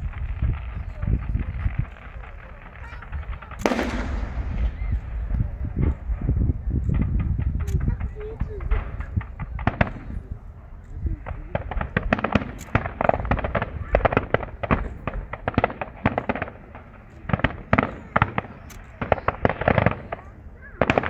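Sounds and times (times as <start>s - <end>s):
fireworks crackling bangs: 0.0s - 21.0s.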